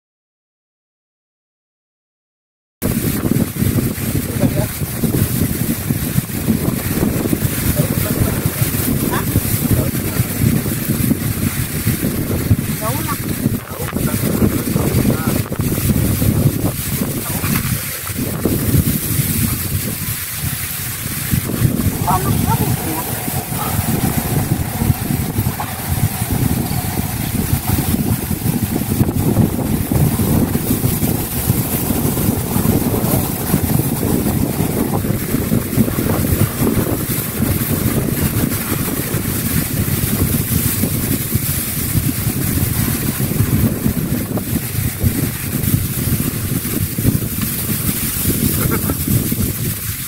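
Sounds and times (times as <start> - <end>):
wind buffeting microphone: 2.8 - 50.0.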